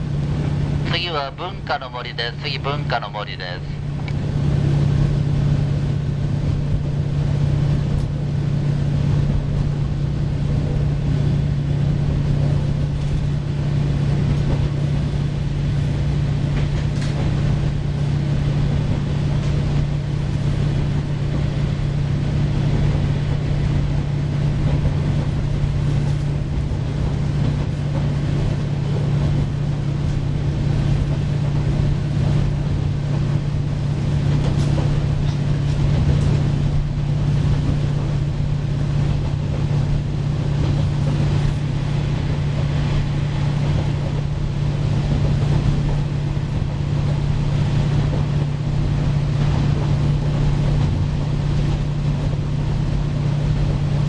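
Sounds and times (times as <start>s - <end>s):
diesel engine drone: 0.0s - 54.0s
wheels rumbling on track: 0.0s - 54.0s.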